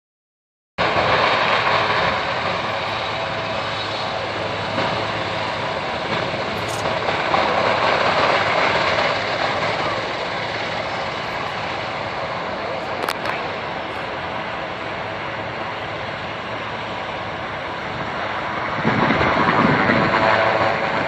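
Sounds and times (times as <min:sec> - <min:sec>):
helicopter engine and rotor noise: 0:00.8 - 0:21.0.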